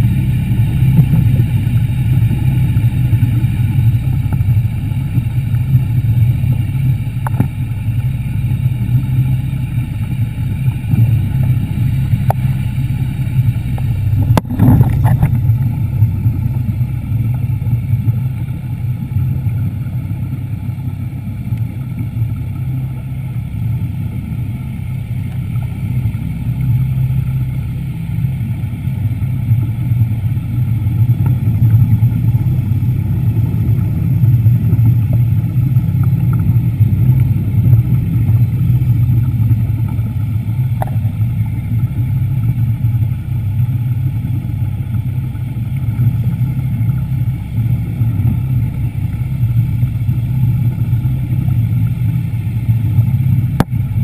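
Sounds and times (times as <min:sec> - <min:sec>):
underwater motor droning: 0:00.0 - 0:54.0.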